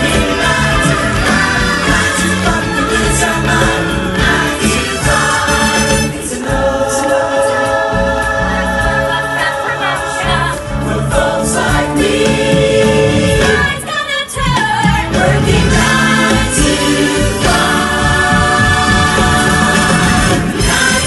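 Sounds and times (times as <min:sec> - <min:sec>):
cast singing together: 0:00.0 - 0:21.0
loud backing music: 0:00.0 - 0:21.0.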